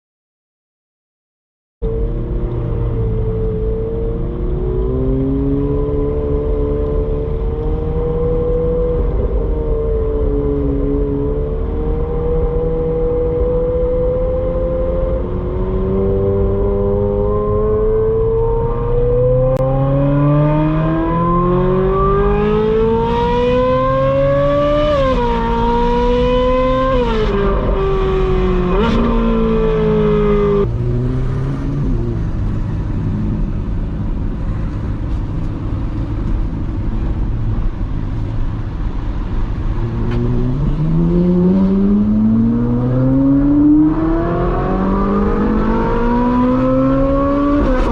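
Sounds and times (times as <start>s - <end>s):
sports car engine accelerating: 1.8s - 47.9s.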